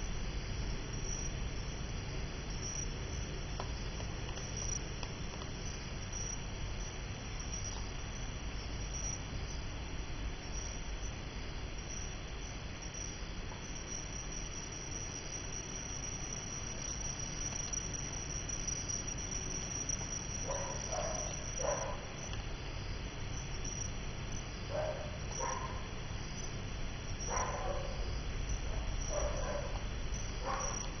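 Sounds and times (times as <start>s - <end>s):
high insect chirring: 2.5s - 9.6s, 11.8s - 31.0s.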